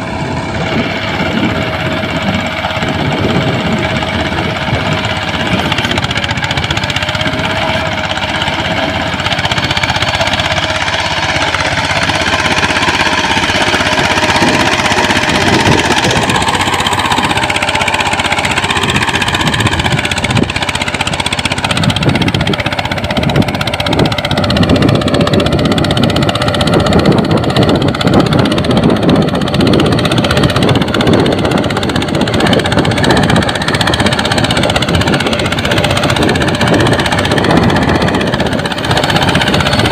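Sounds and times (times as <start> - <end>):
tractor engine knocking clatter: 0.0 - 39.9.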